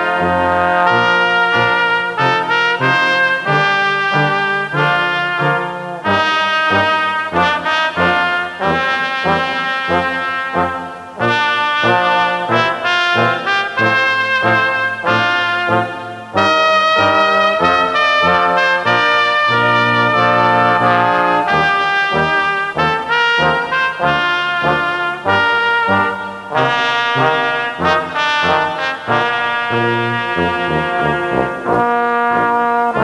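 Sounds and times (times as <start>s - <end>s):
brass ensemble playing: 0.0s - 33.0s.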